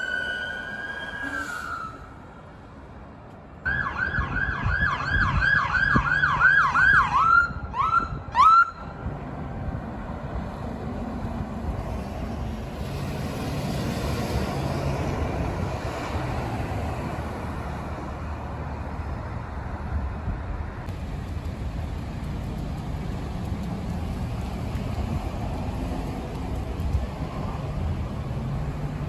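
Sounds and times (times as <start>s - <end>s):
road traffic: 0.0s - 29.0s.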